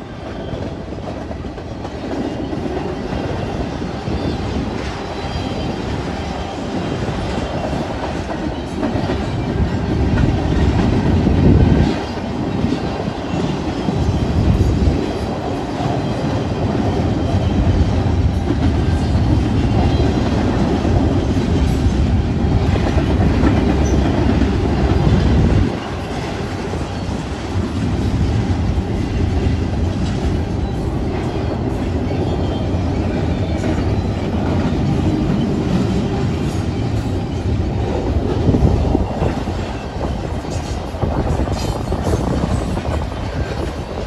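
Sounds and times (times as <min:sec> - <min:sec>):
freight train rumbling past: 0:00.0 - 0:44.0
wheels clattering on rails: 0:00.1 - 0:44.0.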